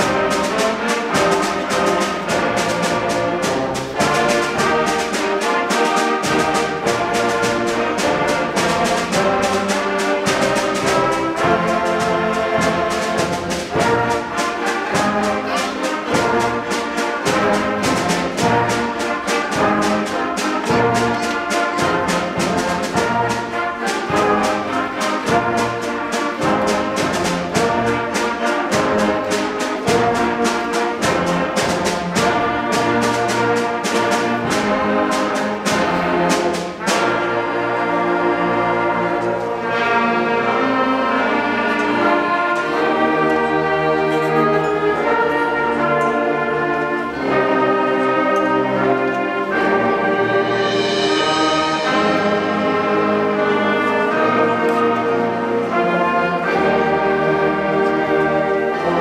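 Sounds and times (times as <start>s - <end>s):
school band brass and woodwinds: 0.0s - 59.0s
steady percussion beat: 0.0s - 59.0s.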